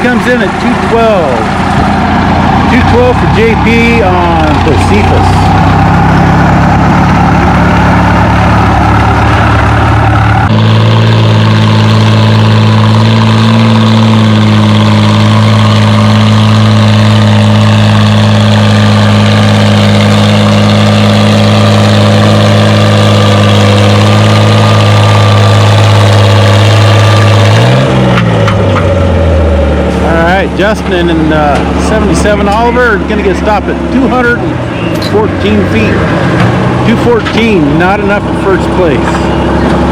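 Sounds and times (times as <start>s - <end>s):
different engine sound: 0.0s - 39.9s
tractor engine under heavy load: 0.0s - 39.9s.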